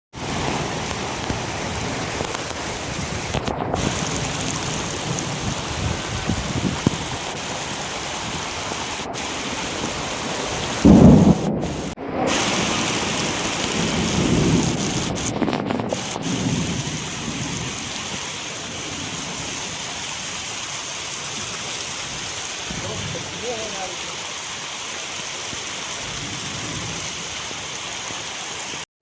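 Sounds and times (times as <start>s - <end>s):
steady rain falling: 0.2s - 28.9s.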